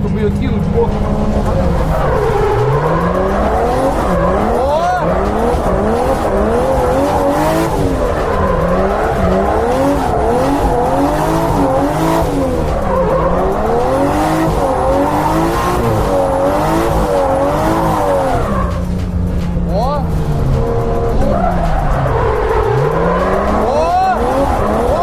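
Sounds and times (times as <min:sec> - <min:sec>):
car engine revving: 0:00.0 - 0:25.0
tyre noise: 0:00.0 - 0:25.0.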